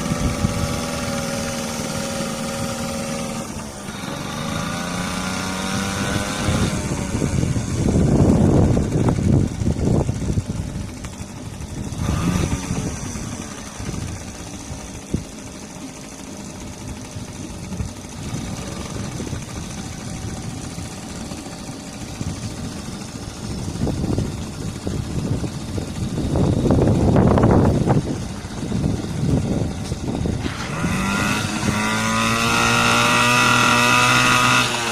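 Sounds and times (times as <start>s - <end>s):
small outboard motor running: 0.0s - 34.9s.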